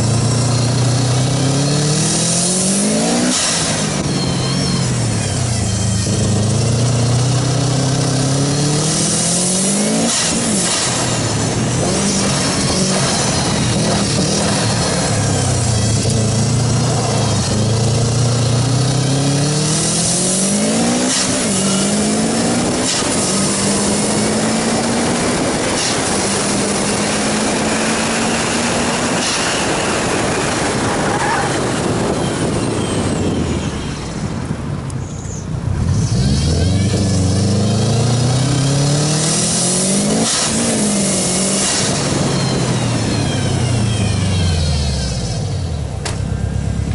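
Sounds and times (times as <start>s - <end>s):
car engine revving: 0.0s - 33.4s, 35.6s - 46.9s.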